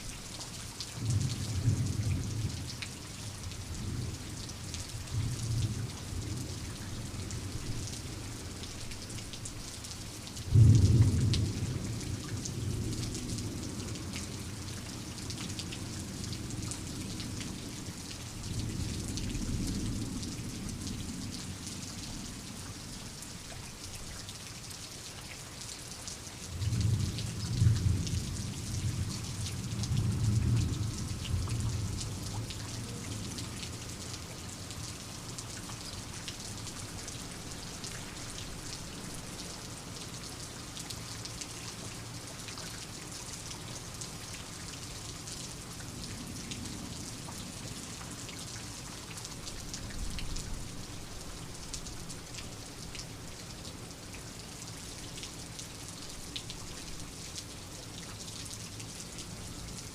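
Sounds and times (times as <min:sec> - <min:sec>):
steady rain drops: 0:00.0 - 0:59.9.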